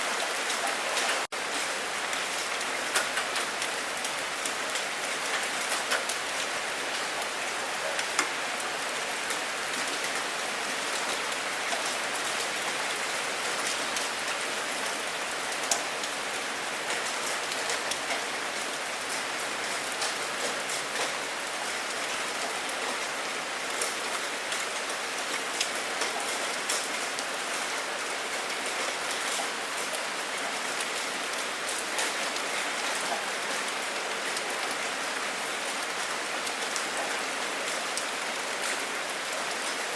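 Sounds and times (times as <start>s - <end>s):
steady rain hiss: 0.0s - 39.9s
raindrops ticking close by: 0.1s - 39.9s.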